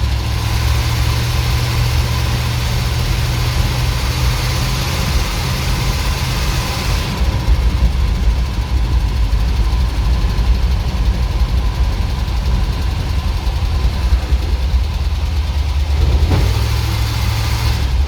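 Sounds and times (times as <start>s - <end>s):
truck engine idling unevenly: 0.0s - 18.0s.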